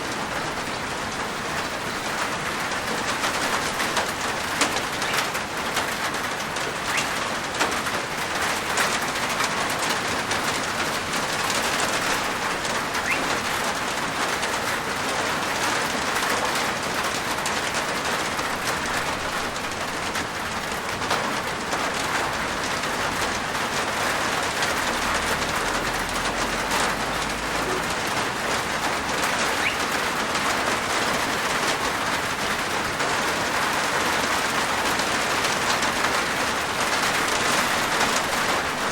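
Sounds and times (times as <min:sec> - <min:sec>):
rain on a roof: 0:00.0 - 0:38.9.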